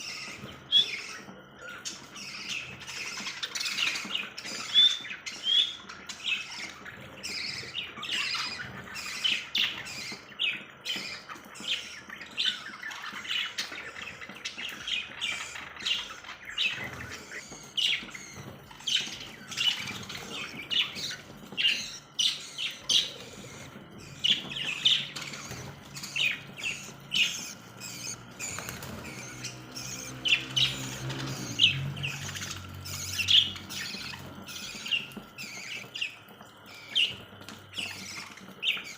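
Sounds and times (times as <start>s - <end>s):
parrots squawking: 0.0s - 38.9s.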